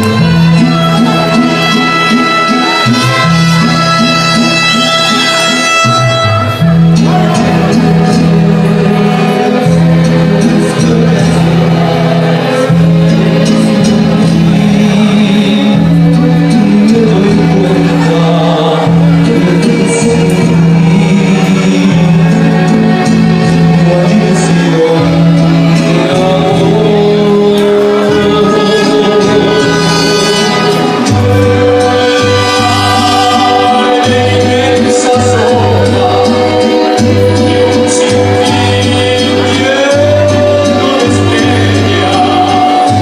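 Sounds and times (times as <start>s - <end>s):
mariachi band playing: 0.0s - 43.0s
sustained low bass notes: 0.0s - 43.0s.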